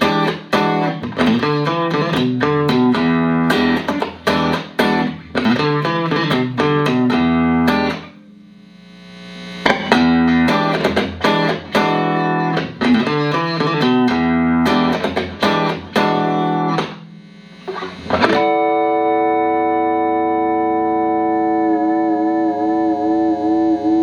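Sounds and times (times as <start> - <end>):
clean electric guitar: 0.0 - 24.0.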